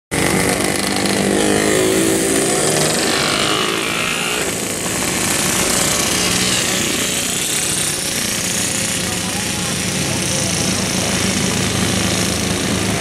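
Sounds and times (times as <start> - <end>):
two-stroke motorcycles revving past: 0.1 - 13.0.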